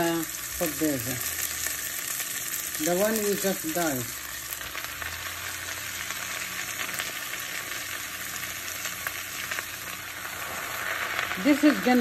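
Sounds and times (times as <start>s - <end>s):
leaves frying in oil: 0.0s - 12.0s.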